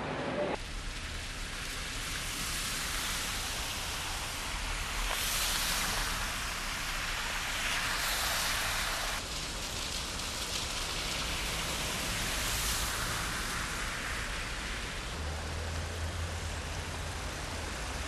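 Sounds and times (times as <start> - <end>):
heavy rain hissing: 0.2 - 18.0
car tyres through flooded road: 0.6 - 18.0.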